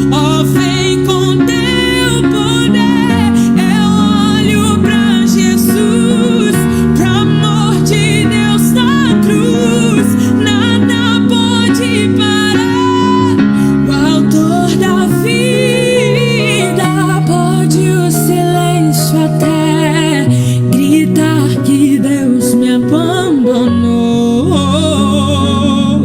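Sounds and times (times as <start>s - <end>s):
gospel music: 0.0s - 26.0s.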